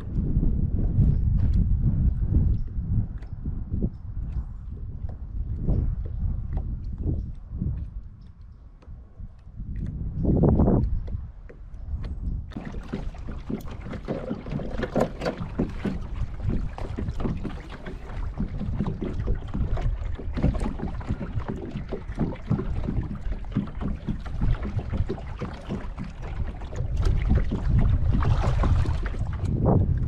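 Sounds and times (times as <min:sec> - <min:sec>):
small waves lapping against hull: 0:00.0 - 0:30.0
wind rumbling on microphone: 0:00.0 - 0:30.0.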